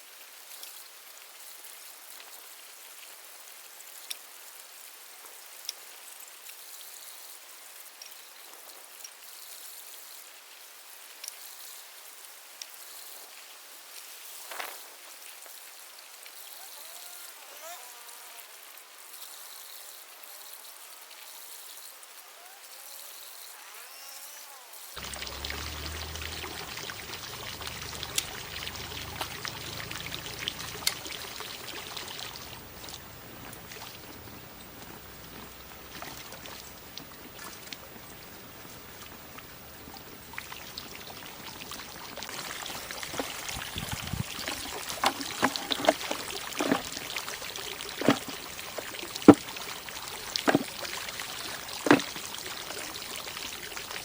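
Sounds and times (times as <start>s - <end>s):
water pouring and trickling: 0.0s - 54.0s.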